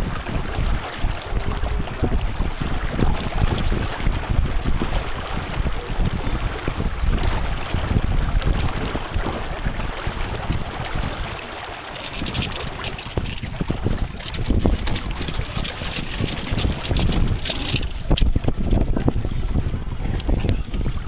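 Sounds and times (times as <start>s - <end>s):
water rushing along boat hull: 0.0s - 21.0s
wind buffeting microphone: 0.0s - 21.0s.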